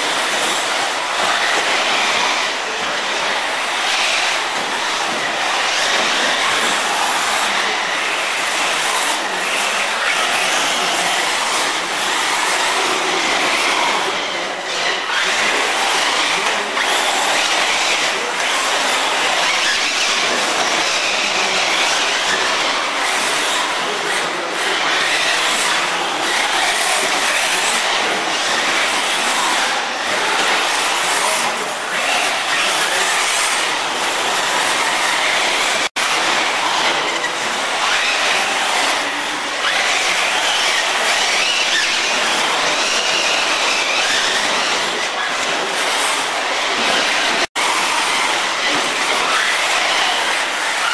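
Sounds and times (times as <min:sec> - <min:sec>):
rc car whirring on dirt: 0:00.0 - 0:50.9.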